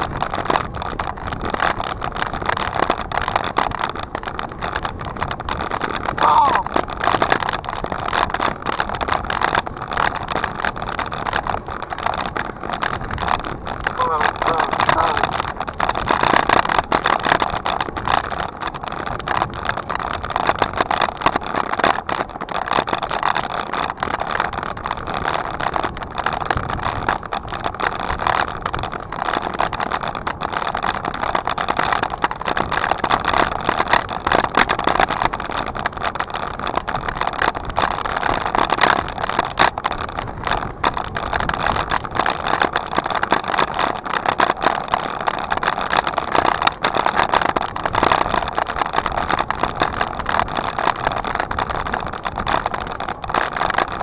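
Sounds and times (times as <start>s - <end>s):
bicycle rattles and knocks: 0.0s - 54.0s
wind and tyres rushing: 0.0s - 54.0s.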